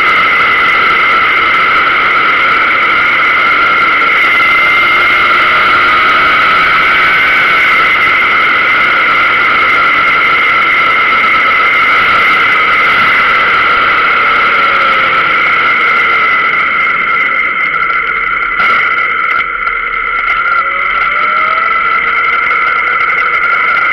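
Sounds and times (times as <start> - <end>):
wind rushing over camera: 0.0 - 20.6
faint motorcycle engine: 0.0 - 23.9.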